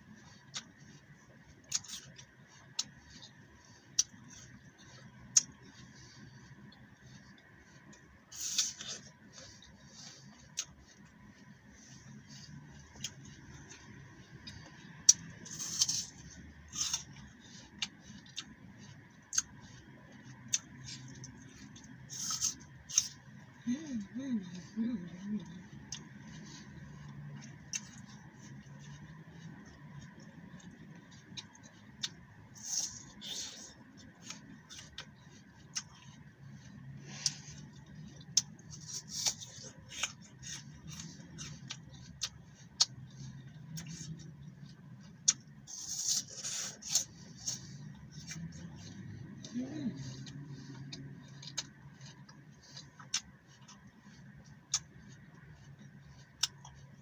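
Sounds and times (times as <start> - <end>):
chewing crisp apple: 0.0 - 57.0.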